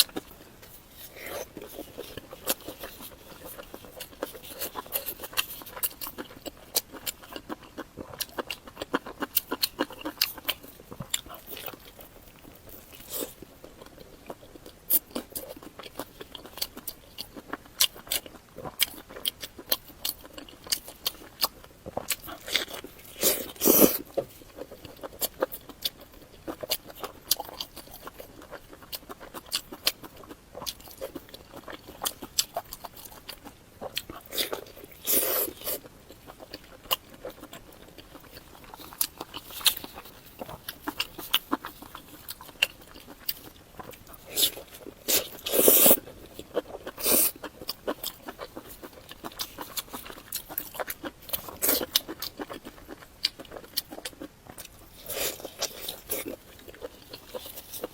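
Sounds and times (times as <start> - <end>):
chewing and biting: 0.0 - 57.9.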